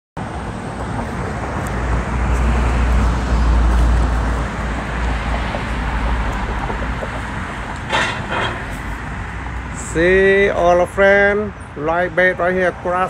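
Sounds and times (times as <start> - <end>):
vehicle passing: 0.2 - 10.8
road traffic noise: 0.2 - 13.0.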